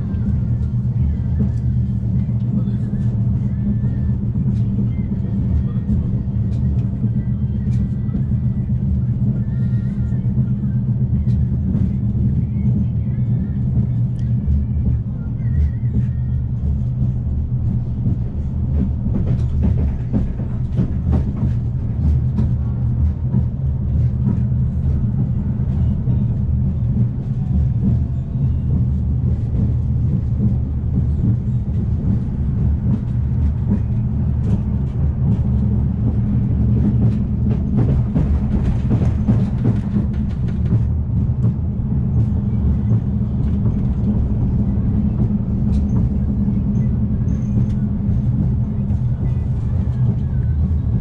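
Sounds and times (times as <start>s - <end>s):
train carriage rumble: 0.0s - 51.0s.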